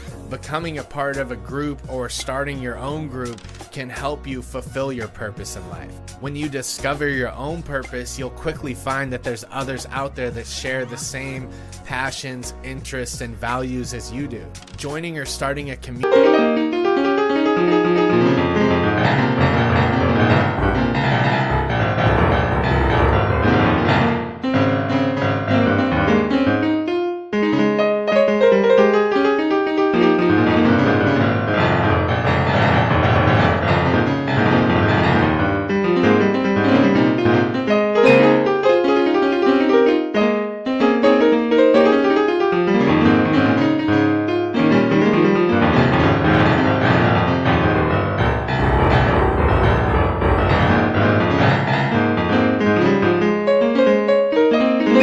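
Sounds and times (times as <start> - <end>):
piano background music: 0.0 - 55.0.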